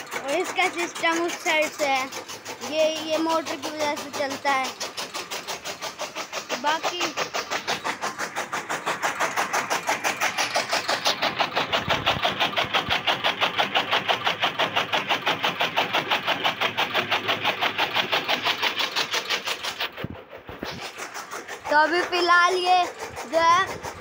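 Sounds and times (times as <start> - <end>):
chaff cutter chopping stalks: 0.0 - 24.0.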